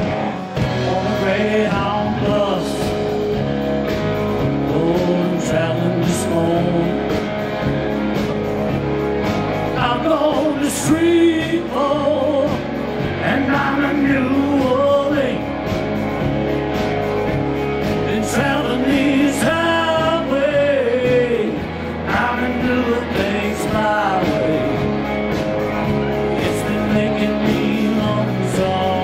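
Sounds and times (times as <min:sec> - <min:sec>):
live rock and roll band: 0:00.0 - 0:29.0
wavering guitar lead line: 0:00.0 - 0:29.0.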